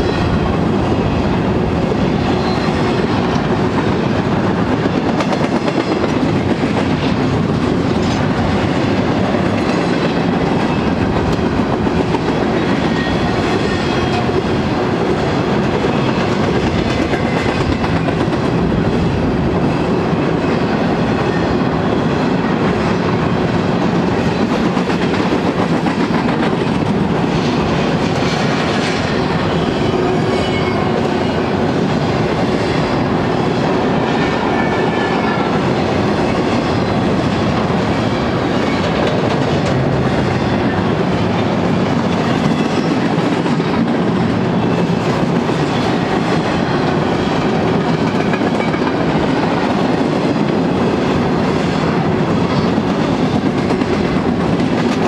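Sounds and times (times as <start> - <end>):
freight train wheels clicking on rails: 0.0 - 55.0.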